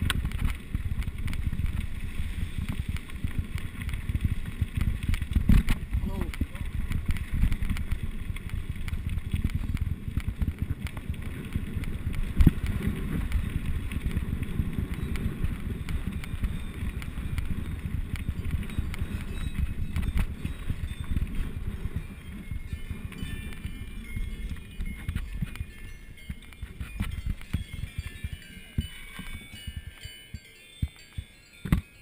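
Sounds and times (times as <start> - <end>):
mountain bike rattling on trail: 0.0 - 32.0.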